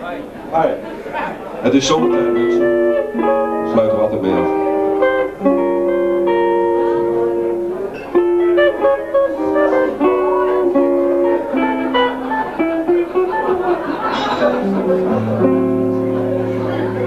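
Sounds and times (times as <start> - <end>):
acoustic guitars playing: 1.7 - 17.0.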